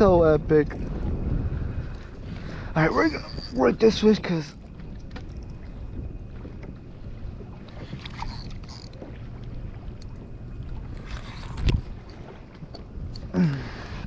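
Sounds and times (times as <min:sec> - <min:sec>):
water around a kayak: 0:00.0 - 0:14.0
wind rumbling on microphone: 0:00.0 - 0:14.0.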